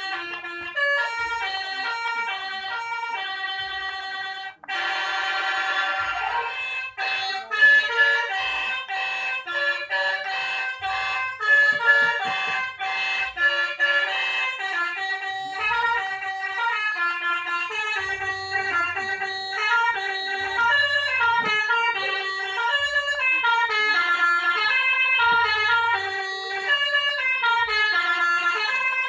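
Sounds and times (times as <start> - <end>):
bus horn playing a melody: 0.0 - 29.0.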